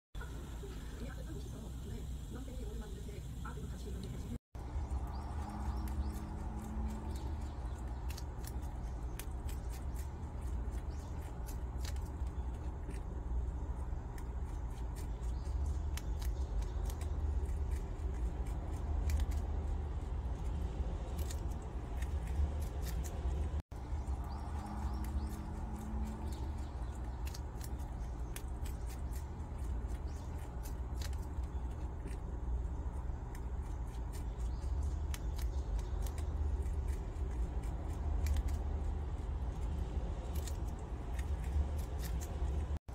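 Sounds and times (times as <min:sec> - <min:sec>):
steady low hum: 0:00.2 - 0:42.9
animals crunching watermelon rind: 0:03.5 - 0:42.9.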